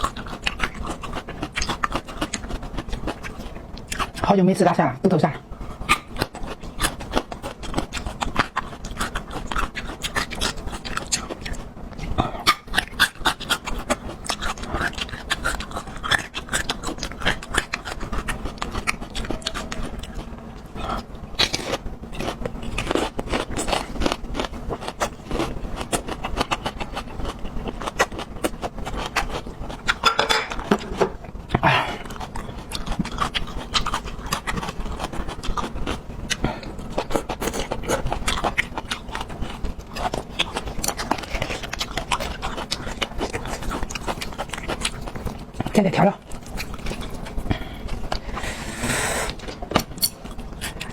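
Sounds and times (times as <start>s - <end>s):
person chewing crunchy food: 0.0s - 4.4s, 5.5s - 50.9s.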